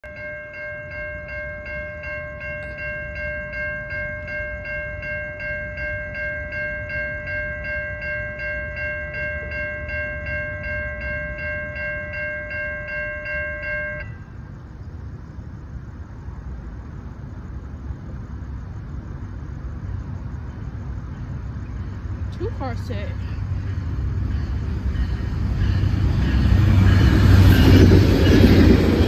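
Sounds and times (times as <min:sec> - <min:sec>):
crossing warning bell ringing: 0:00.0 - 0:14.9, 0:19.1 - 0:29.0.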